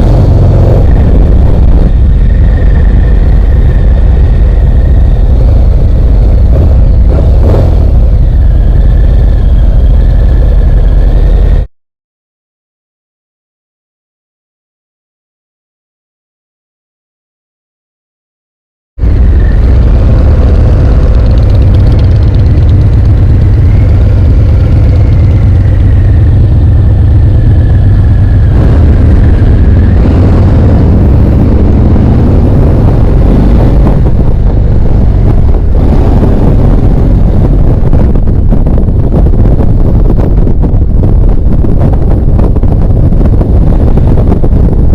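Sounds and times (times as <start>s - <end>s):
motorcycle engine running: 0.0s - 11.7s, 19.0s - 44.9s
wind noise on microphone: 0.0s - 11.7s, 19.0s - 44.9s.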